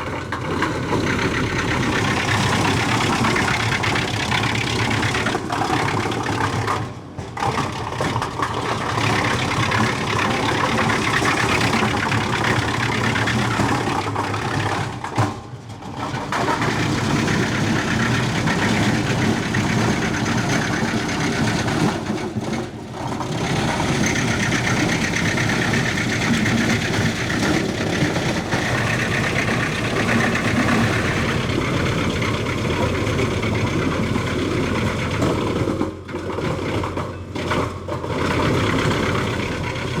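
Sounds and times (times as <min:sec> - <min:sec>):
tractor engine running: 0:00.0 - 0:40.0
wood chipper: 0:00.0 - 0:40.0.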